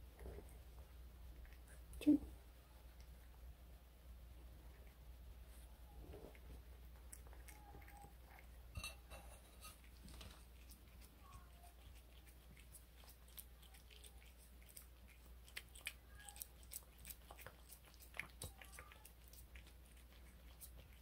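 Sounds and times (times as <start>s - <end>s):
cat chewing and licking: 0.0s - 21.0s.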